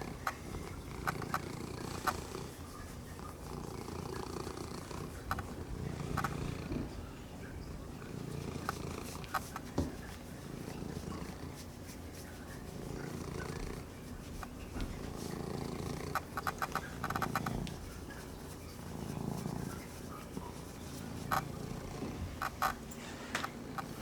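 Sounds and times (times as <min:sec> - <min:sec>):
kitten purring: 0:00.0 - 0:11.6, 0:12.7 - 0:24.0.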